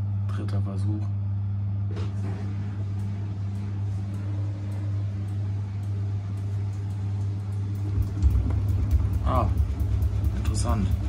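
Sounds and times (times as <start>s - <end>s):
washing machine drum turning: 1.9s - 11.0s.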